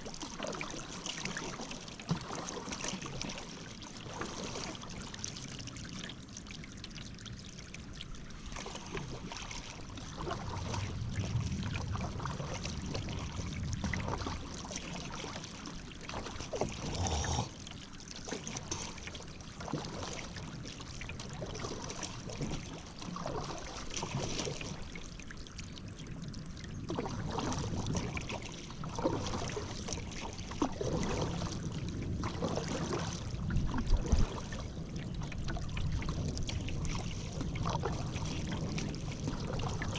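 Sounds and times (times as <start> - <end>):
paddle strokes in water: 0.0 - 39.9
water trickling off paddle: 0.0 - 39.9.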